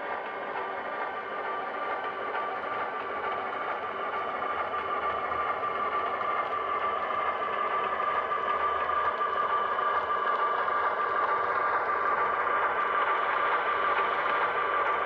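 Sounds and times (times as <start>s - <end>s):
model locomotive humming and whining: 0.0s - 15.0s.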